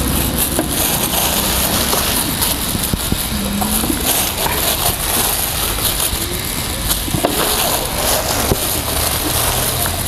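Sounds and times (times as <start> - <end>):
chicken rustling in flour: 0.0 - 10.0
steady rushing background noise: 0.0 - 10.0.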